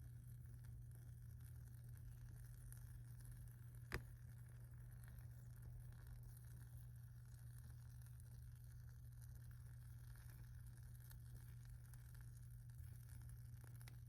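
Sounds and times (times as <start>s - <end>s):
wood fire crackling: 0.1s - 14.0s.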